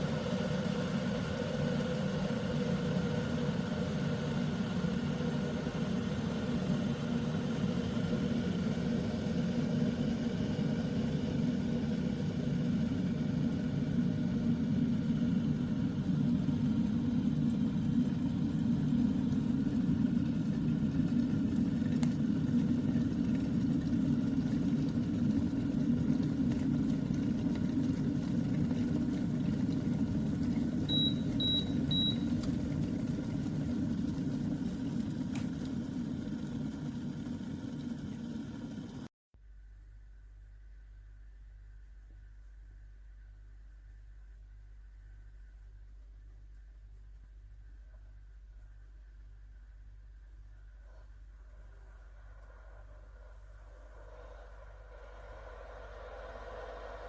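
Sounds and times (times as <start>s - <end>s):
kettle rumbling to the boil: 0.0s - 39.1s, 47.2s - 57.0s.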